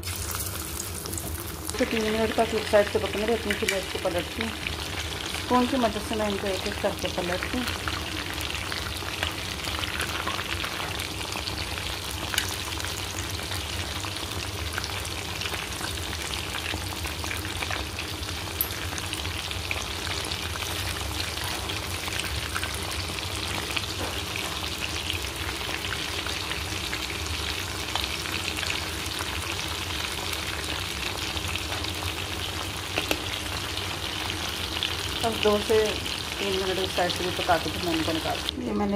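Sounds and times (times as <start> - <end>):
deep-frying sizzle with crackles: 0.0 - 38.9.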